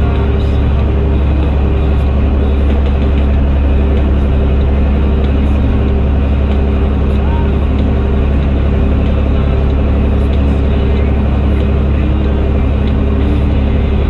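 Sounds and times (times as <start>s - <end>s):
tractor diesel engine droning: 0.0s - 14.0s.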